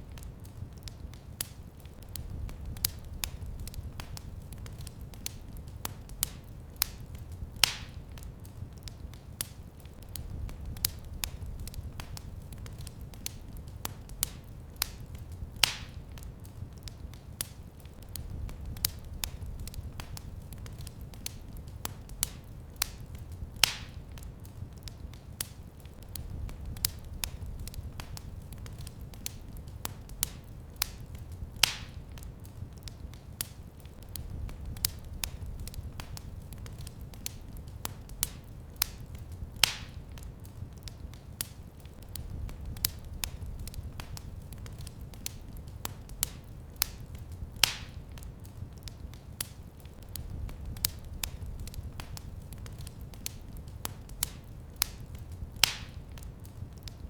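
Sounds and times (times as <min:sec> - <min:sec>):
wood fire crackling: 0:00.0 - 0:57.0
loud fire pops: 0:00.1 - 0:57.0.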